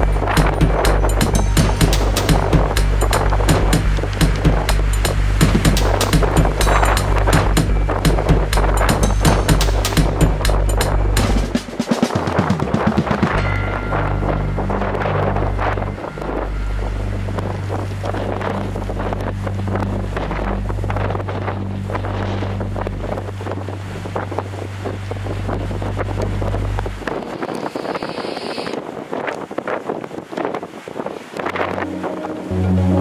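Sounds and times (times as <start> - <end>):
gusty wind buffeting microphone: 0.0 - 33.0.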